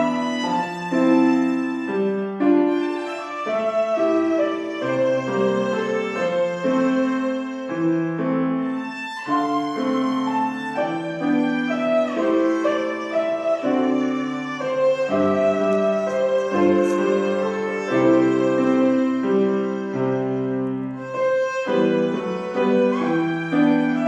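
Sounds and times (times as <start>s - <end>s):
piano accompaniment: 0.0s - 24.0s
violin slow melody: 0.0s - 24.0s.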